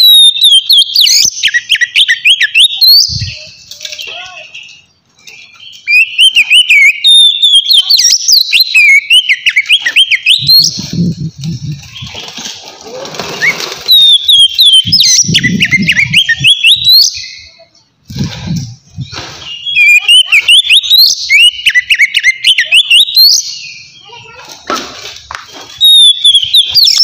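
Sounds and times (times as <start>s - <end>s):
bird singing whistled phrases: 0.0s - 11.1s, 13.4s - 17.6s, 19.0s - 24.2s, 25.8s - 27.0s.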